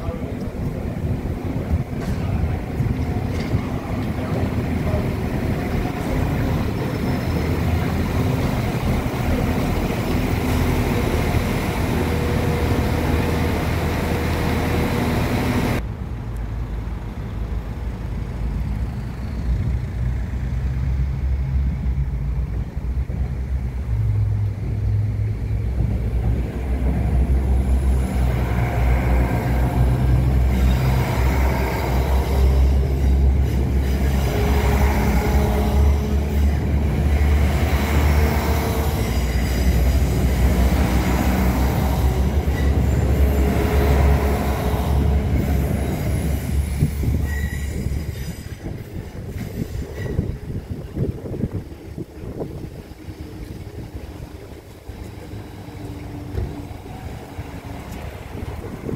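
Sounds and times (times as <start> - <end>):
train wheels on rails: 0.0 - 15.9, 17.3 - 58.9
diesel train engine drone: 0.0 - 58.9.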